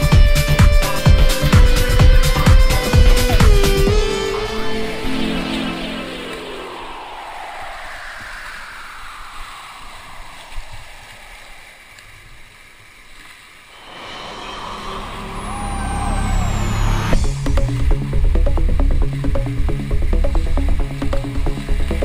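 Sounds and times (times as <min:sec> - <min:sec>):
electronic music: 0:00.0 - 0:11.7, 0:13.8 - 0:22.0
rushing river whitewater: 0:00.0 - 0:22.0.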